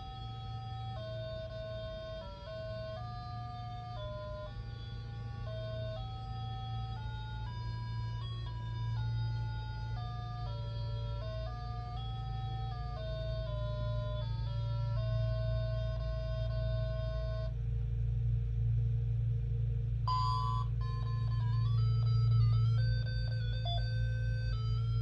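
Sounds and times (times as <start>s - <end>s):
electronic alarm melody: 0.0s - 17.5s, 20.1s - 25.0s
low hum: 0.0s - 25.0s.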